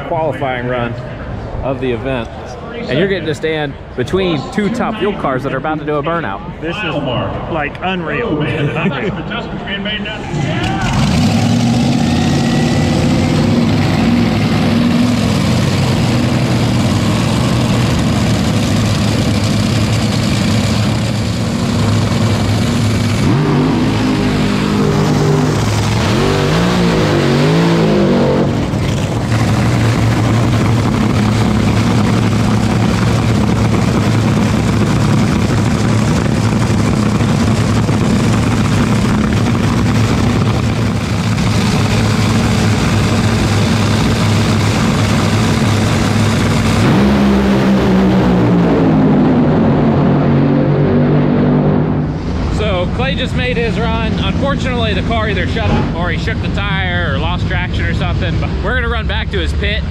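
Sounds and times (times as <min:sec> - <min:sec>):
dragster engine idling and revving: 0:09.0 - 0:59.9.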